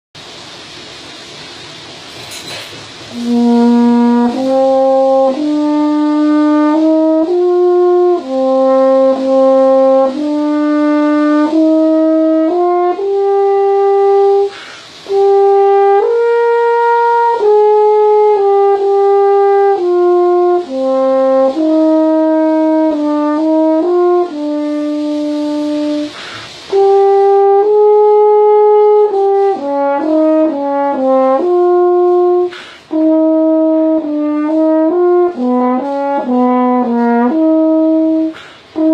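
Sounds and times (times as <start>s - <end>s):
solo french horn melody: 3.0s - 38.9s.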